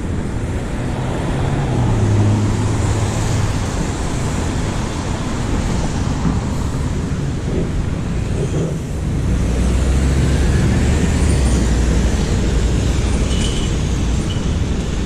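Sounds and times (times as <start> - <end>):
traffic noise with engine hum: 0.0 - 15.0.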